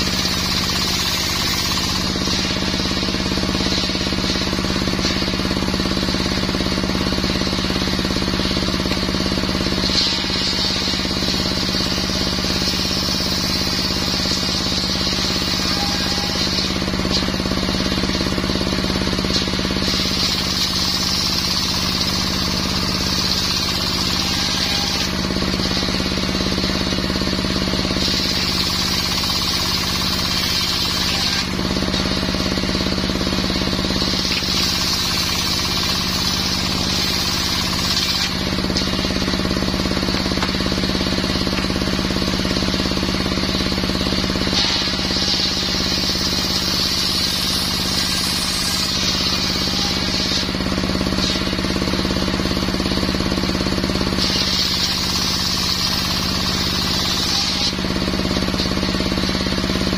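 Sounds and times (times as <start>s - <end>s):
petrol circular saw cutting wood: 0.0s - 59.9s.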